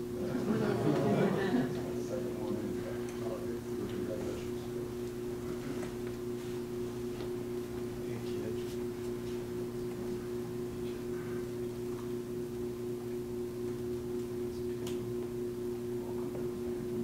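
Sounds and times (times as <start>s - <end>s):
low hum of even tones: 0.0s - 17.0s.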